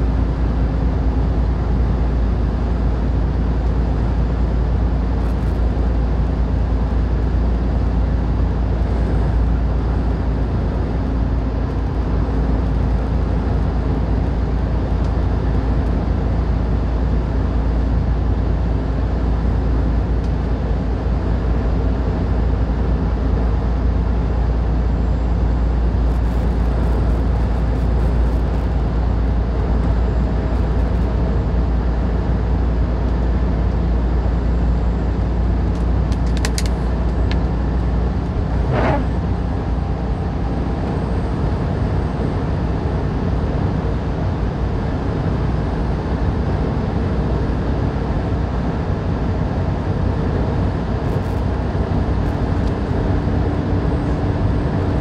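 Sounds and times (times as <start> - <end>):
truck engine drone: 0.0 - 55.0.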